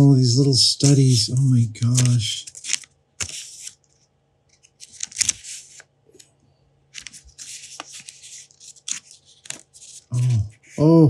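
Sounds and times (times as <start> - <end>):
paper pages turning: 0.4 - 6.3, 6.9 - 10.8.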